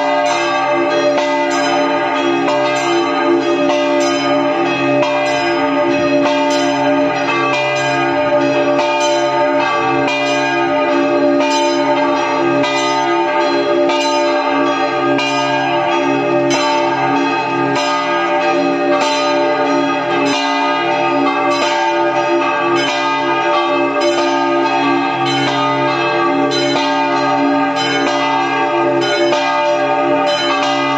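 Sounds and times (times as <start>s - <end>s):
church bells pealing: 0.0s - 30.9s.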